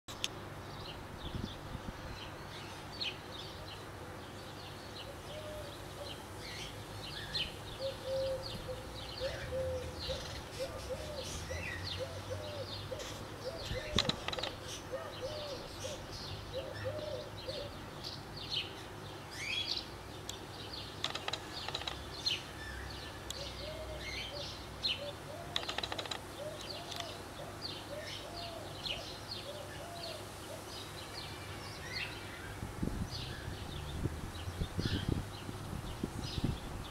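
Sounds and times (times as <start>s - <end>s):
birds chirping: 0.1s - 36.9s.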